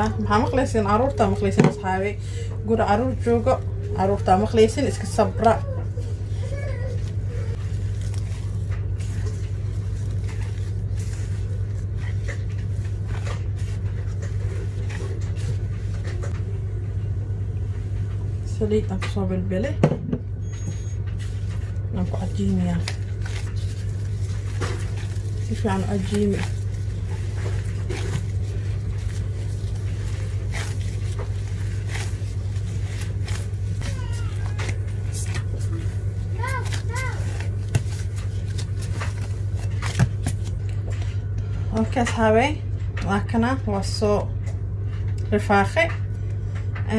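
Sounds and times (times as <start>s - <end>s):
dough squishing and slapping: 0.0s - 16.4s, 20.9s - 46.9s
low hum: 0.0s - 46.9s.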